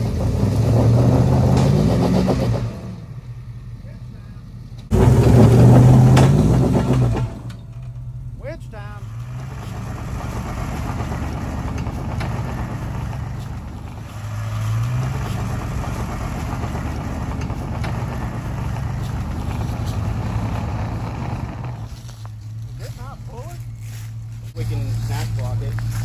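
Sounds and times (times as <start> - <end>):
vehicle engine running under load: 0.0 - 26.0.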